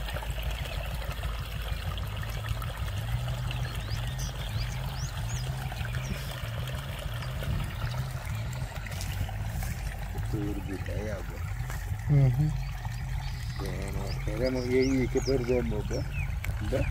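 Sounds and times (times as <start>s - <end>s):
low hum: 0.0s - 16.9s
water pouring from hose: 0.0s - 16.9s.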